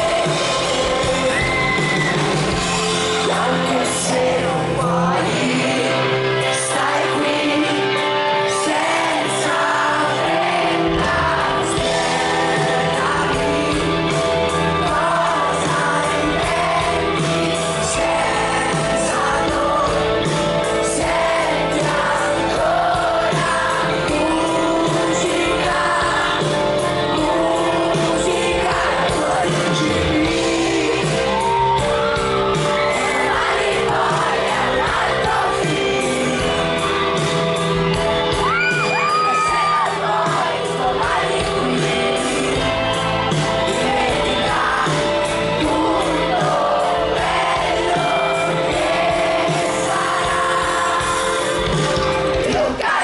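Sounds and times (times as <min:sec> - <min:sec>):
live pop rock band: 0:00.0 - 0:53.0
man singing lead vocal: 0:00.0 - 0:53.0.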